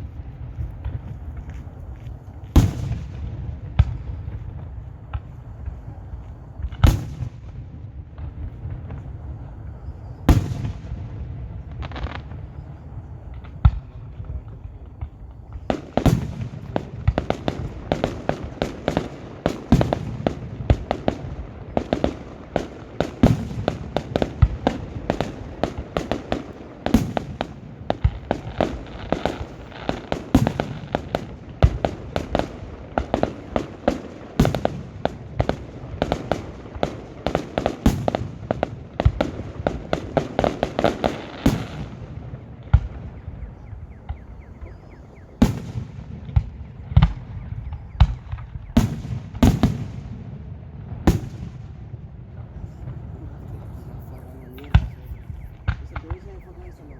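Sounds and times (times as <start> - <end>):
fireworks bangs and cracks: 0.0 - 56.9.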